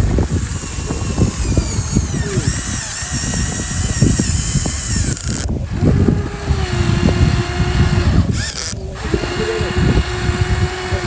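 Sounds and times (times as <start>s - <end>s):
model excavator motors whining: 0.0s - 11.0s.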